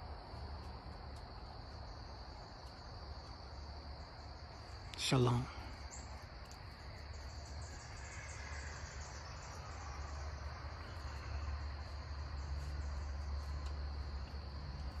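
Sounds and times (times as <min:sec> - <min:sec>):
crickets trilling: 0:00.0 - 0:15.0
pulsing insect chirp: 0:00.0 - 0:15.0.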